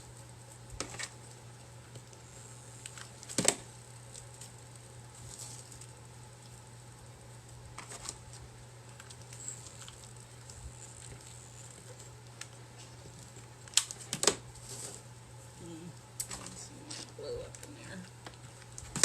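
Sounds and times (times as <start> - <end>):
rope rustling on clay pot: 0.0 - 19.0
steady low hum: 0.0 - 19.0.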